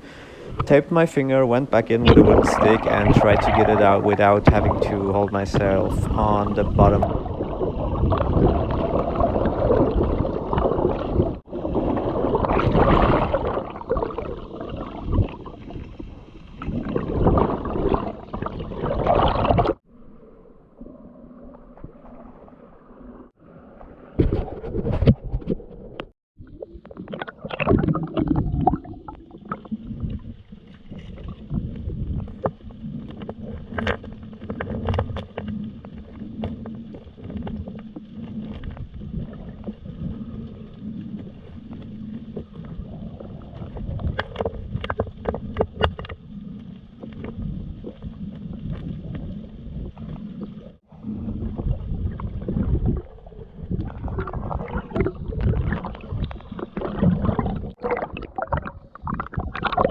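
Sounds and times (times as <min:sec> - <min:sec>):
underwater river current rushing: 0:00.0 - 0:25.0, 0:26.4 - 0:59.9.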